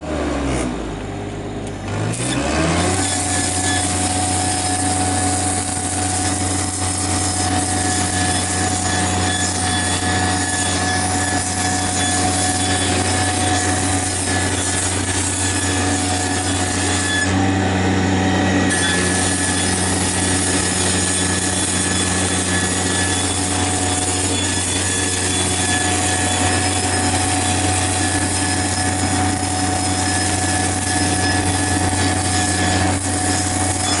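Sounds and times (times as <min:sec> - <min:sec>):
welding generator engine drone: 0:00.0 - 0:34.0.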